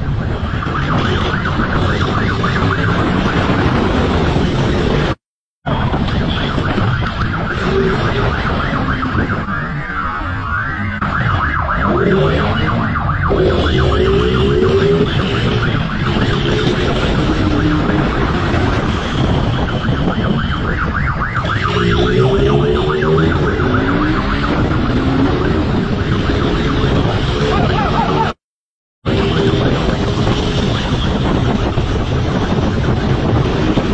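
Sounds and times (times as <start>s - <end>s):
siren wailing: 0.0s - 28.4s, 29.1s - 33.9s
wind rushing: 0.0s - 28.4s, 29.0s - 33.9s.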